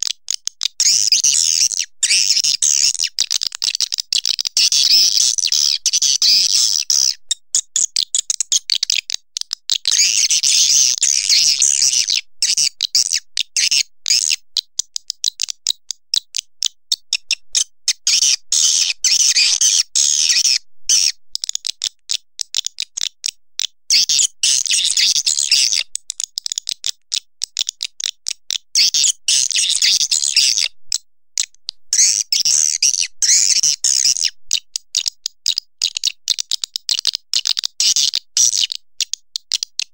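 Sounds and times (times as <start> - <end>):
bird clicking calls: 0.0 - 39.9.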